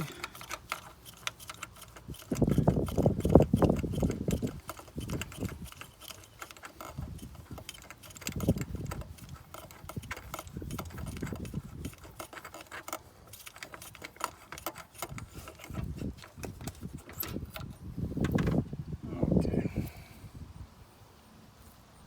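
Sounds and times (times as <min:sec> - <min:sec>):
ratchet clicking: 0:00.0 - 0:17.8.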